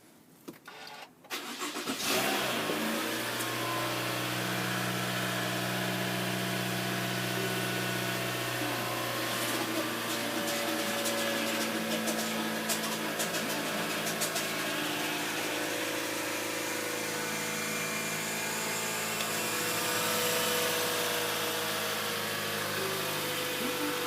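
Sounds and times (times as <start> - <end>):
car engine running: 2.0 - 24.0.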